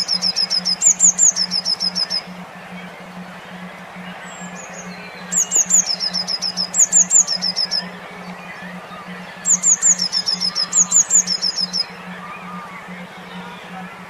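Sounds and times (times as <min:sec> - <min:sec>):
faint bird chirps: 0:00.0 - 0:14.0
low pulsing hum: 0:00.0 - 0:14.0
songbird chirping: 0:00.0 - 0:14.0.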